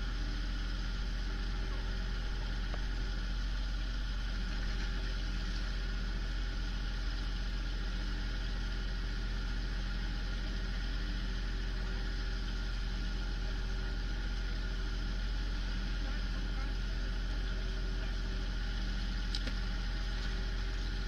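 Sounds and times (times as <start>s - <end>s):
boat engine idling: 0.0s - 21.0s.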